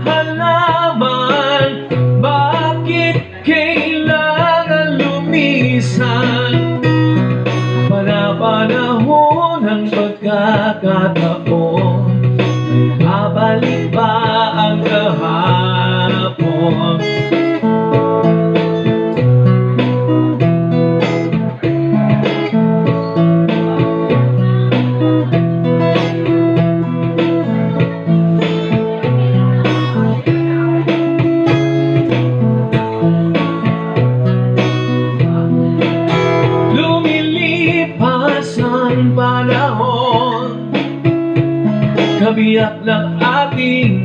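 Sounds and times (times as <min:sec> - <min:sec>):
plucked guitar notes: 0:00.0 - 0:44.0
steady bass line: 0:00.0 - 0:44.0.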